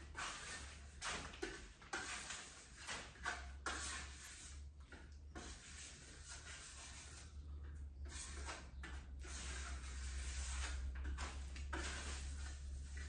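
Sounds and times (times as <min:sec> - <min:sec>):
hand tool scraping putty on wall: 0:00.0 - 0:13.0.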